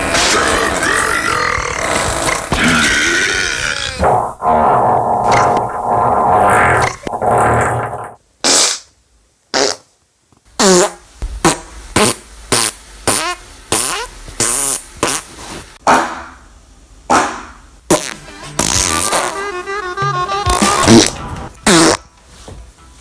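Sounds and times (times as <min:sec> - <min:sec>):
comedy fart sounds: 0:00.0 - 0:08.9, 0:09.5 - 0:10.0, 0:10.6 - 0:15.4, 0:17.1 - 0:22.1.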